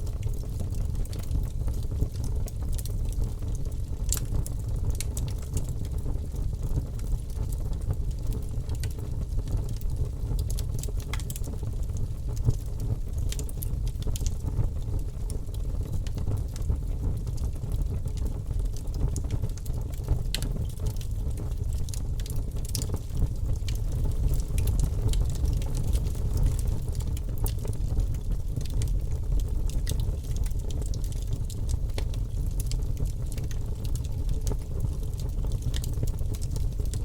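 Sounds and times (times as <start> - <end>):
bonfire flames rumbling: 0.0 - 37.0
burning wood crackling and popping: 0.0 - 37.0.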